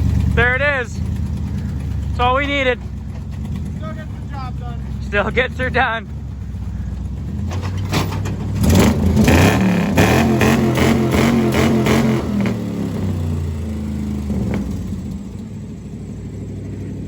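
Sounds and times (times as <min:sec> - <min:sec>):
truck engine revving and idling: 0:00.0 - 0:17.0.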